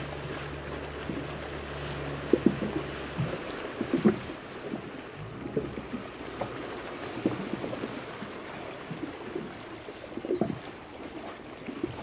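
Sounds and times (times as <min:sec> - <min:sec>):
lake water lapping and splashing: 0:00.0 - 0:12.0.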